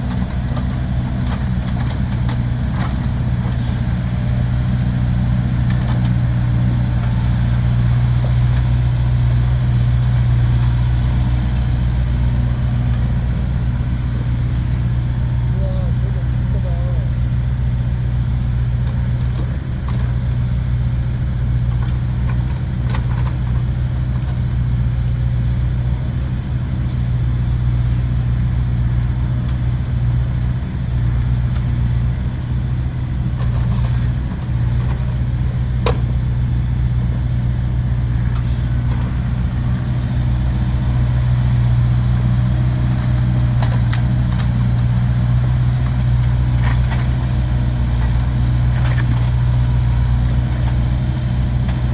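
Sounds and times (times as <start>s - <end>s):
engine idling with low hum: 0.0s - 51.9s.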